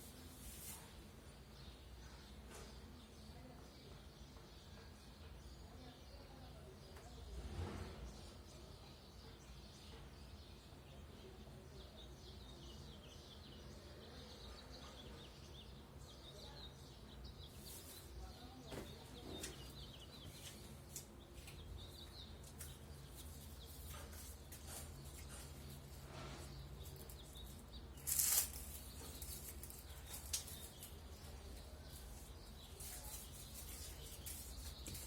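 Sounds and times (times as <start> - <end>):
birds chirping rapidly: 1.3 - 35.0.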